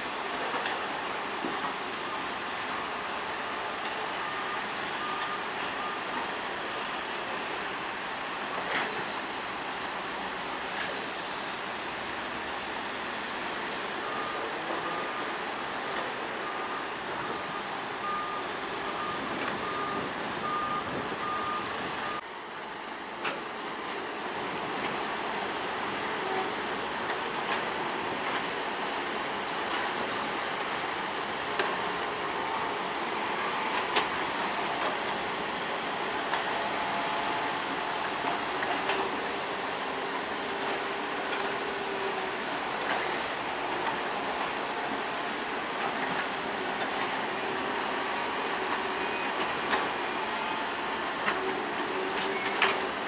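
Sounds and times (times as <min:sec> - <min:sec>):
diesel engines with high whine: 0:00.0 - 0:53.0
reversing alarm beeping: 0:00.1 - 0:22.2, 0:24.5 - 0:53.0.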